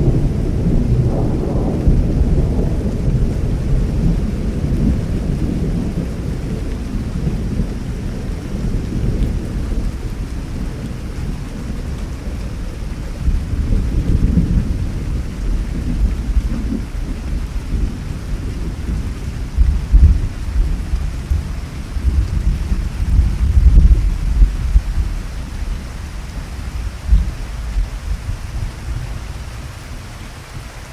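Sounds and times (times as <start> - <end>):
deep rolling thunder: 0.0 - 30.7
steady rain: 0.0 - 30.9.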